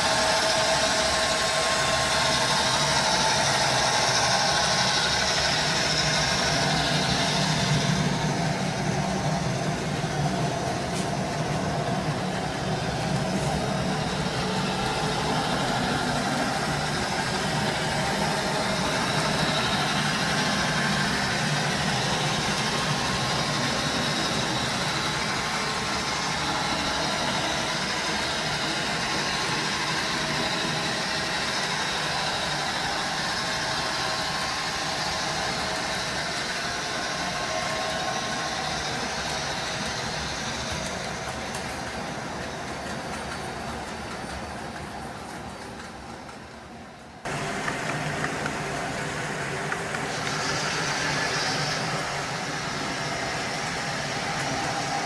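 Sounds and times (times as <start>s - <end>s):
model train running: 0.0s - 55.0s.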